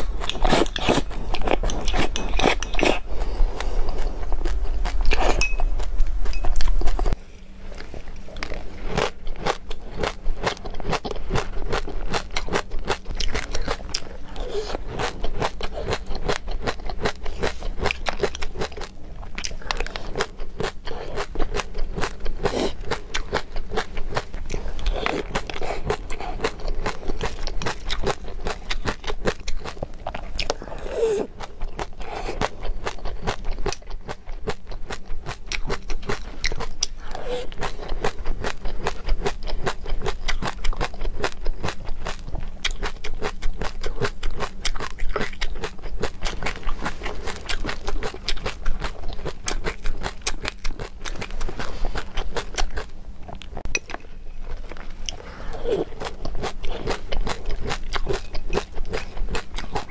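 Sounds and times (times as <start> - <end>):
chewing crunchy seeds: 0.0 - 59.9.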